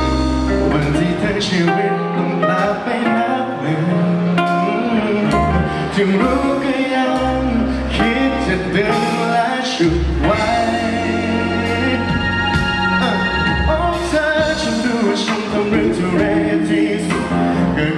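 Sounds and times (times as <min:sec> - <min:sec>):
band with guitars: 0:00.0 - 0:17.9
bass line: 0:00.0 - 0:17.9
man singing pop song: 0:00.5 - 0:17.9.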